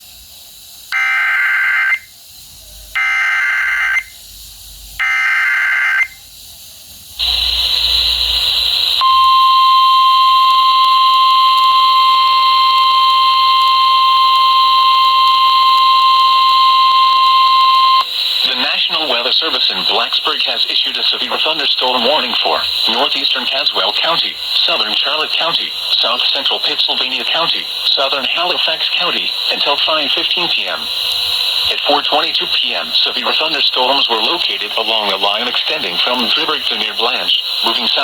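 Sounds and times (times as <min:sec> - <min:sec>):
steady attention tone: 0:02.9 - 0:04.3, 0:05.0 - 0:06.2, 0:07.2 - 0:38.0
warbling data tones: 0:03.0 - 0:04.2, 0:05.0 - 0:06.2, 0:07.2 - 0:38.0.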